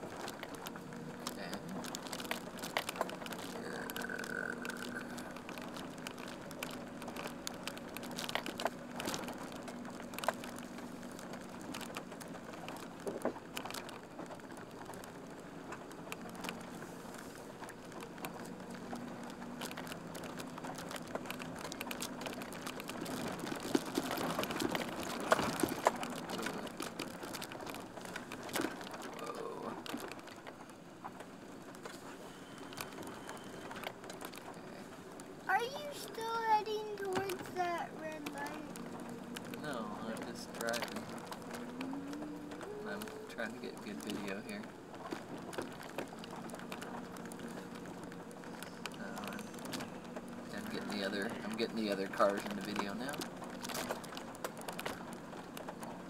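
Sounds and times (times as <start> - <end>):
van engine running: 0.0 - 56.0.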